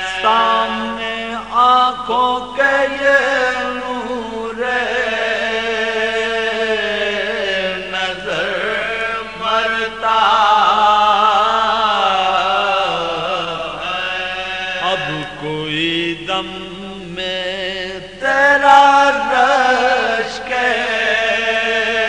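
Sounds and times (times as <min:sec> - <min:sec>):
man chanting unaccompanied: 0:00.0 - 0:22.0.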